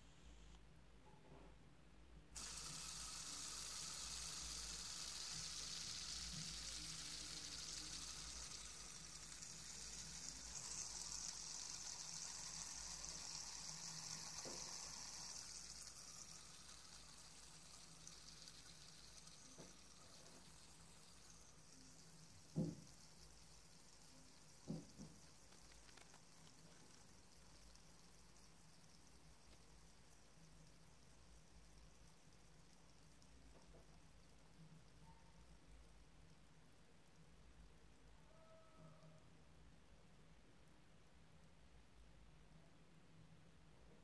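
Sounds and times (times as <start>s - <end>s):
fidget spinner whirring: 2.4s - 39.1s.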